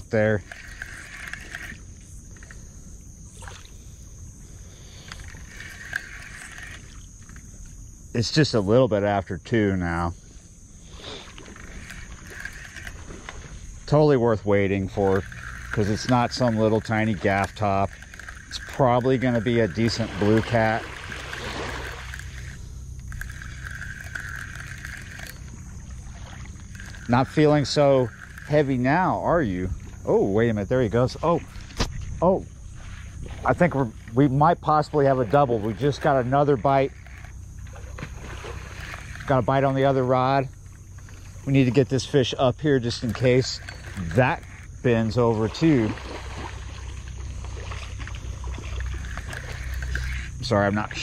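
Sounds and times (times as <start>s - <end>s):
fishing reel cranking: 0.0s - 10.1s, 10.7s - 31.9s, 32.7s - 51.0s
crickets chirping: 0.0s - 51.0s
low hum: 0.0s - 51.0s.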